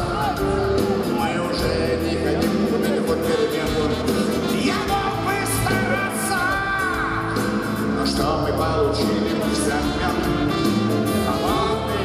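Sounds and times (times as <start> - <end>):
bass guitar: 0.0 - 12.0
man singing lead vocals: 0.0 - 12.0
steady drum beat: 0.0 - 12.0.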